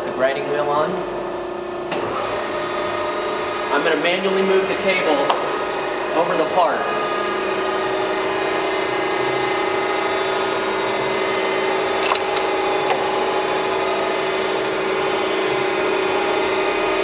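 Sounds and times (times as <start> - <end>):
surface grinder humming: 2.1 - 17.0.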